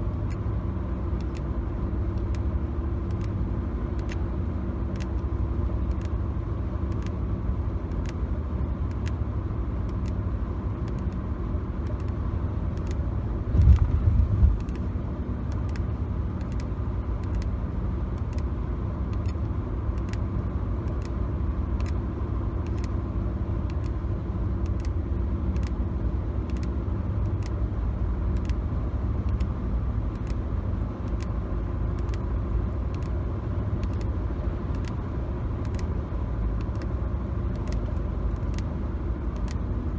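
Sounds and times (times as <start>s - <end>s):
car road and engine rumble: 0.0s - 39.9s
light ticks: 0.1s - 0.5s, 1.1s - 4.3s, 4.9s - 6.2s, 6.9s - 7.2s, 7.8s - 23.0s, 23.6s - 24.0s, 24.6s - 25.8s, 26.4s - 27.7s, 28.3s - 28.6s, 29.2s - 39.7s.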